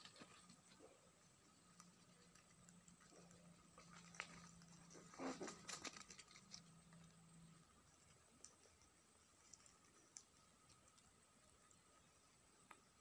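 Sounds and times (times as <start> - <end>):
faint low hum: 0.0 - 13.0
rabbits foraging rustles: 0.0 - 13.0.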